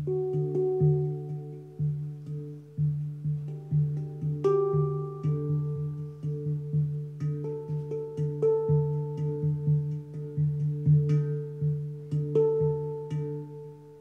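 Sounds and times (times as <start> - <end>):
handpan played by hand: 0.0 - 14.0.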